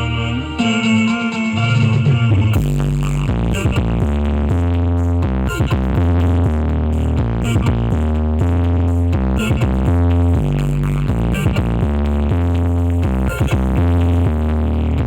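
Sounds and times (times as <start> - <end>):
electronic dance music: 0.0 - 15.0.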